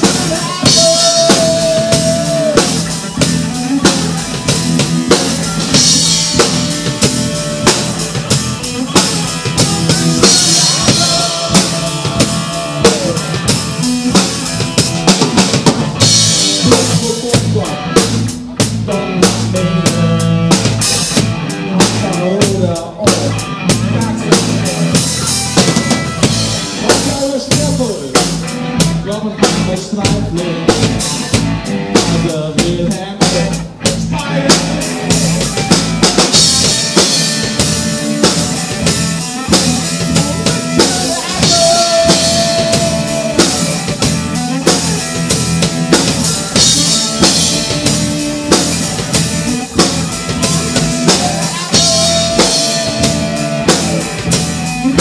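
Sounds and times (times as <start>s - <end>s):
bass drum and snare beat: 0.0s - 55.0s
live band playing: 0.0s - 55.0s.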